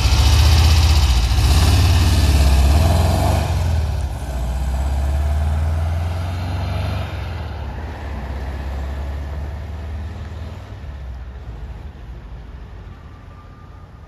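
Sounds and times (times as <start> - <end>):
bus engine low rumble: 0.0 - 14.0.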